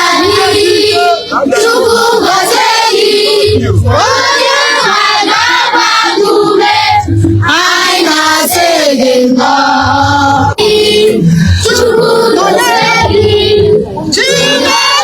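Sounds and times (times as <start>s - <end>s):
choir singing: 0.0s - 15.0s
low bass beat: 0.0s - 15.0s.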